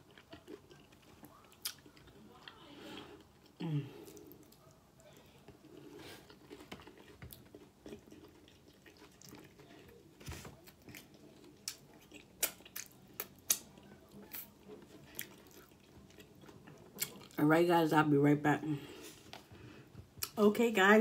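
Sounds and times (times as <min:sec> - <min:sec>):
chewing nachos: 0:00.0 - 0:17.4, 0:18.7 - 0:20.4.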